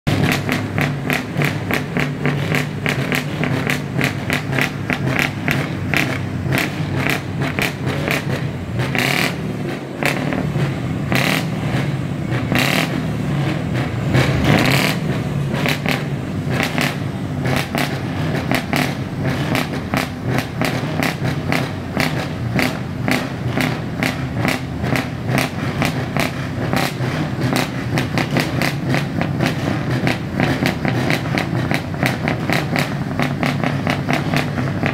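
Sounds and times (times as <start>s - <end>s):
diesel truck engines running: 0.1s - 34.9s
loud bursts of engine noise: 0.1s - 34.9s.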